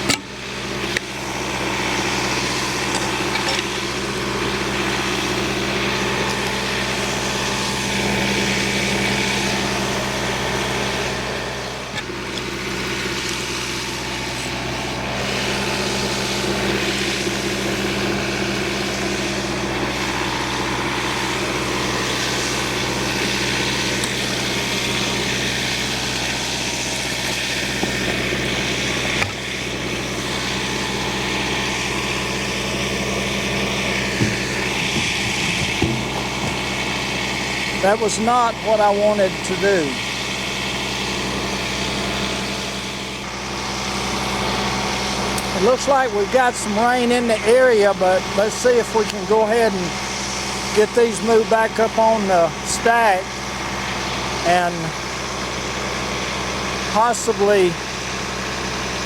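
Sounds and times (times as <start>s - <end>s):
farm machine engine running: 0.0s - 59.0s.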